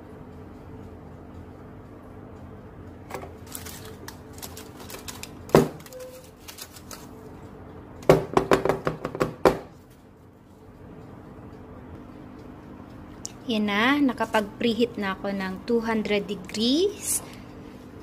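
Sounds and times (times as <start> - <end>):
low steady hum: 0.0 - 8.4, 9.3 - 18.0.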